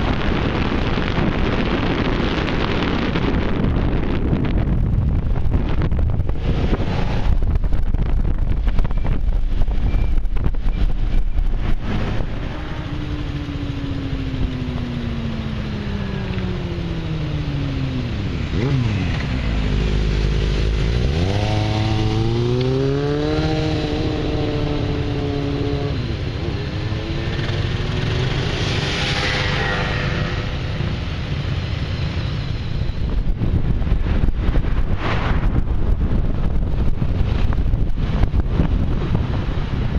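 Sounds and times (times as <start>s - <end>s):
wind buffeting microphone: 0.0s - 16.1s, 16.8s - 39.9s.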